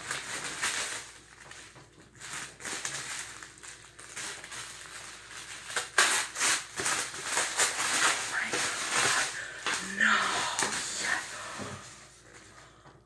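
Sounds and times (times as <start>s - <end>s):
wrapping crinkling and tearing: 0.0s - 12.8s.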